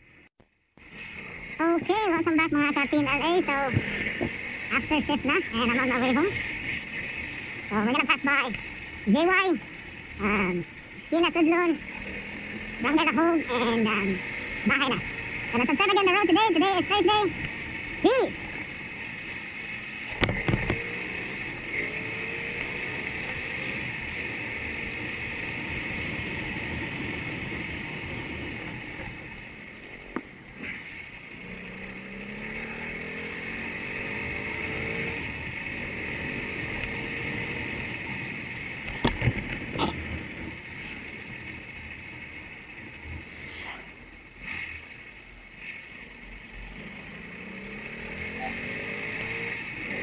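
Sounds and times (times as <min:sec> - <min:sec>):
motorcycle engine accelerating: 0:00.8 - 0:50.0.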